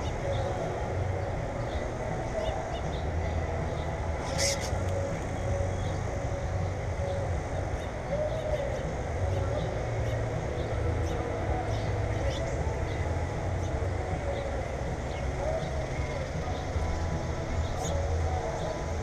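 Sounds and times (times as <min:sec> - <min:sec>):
soft rising and falling calls: 0:00.0 - 0:19.0.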